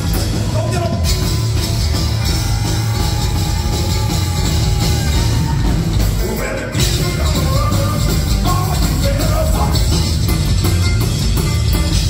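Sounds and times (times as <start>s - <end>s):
live band playing metal bluegrass: 0.0s - 12.0s.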